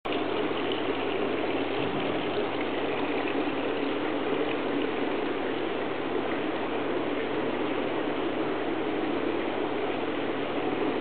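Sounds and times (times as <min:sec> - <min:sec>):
running water rushing: 0:00.1 - 0:11.0.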